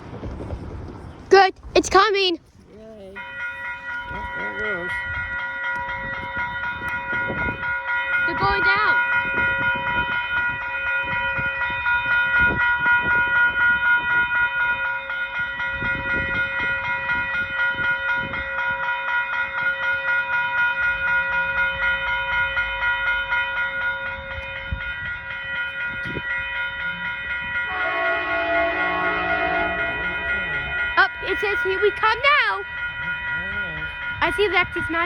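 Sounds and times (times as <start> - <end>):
train wheels rumbling on rails: 0.0 - 35.0
high ringing tones: 2.9 - 35.0.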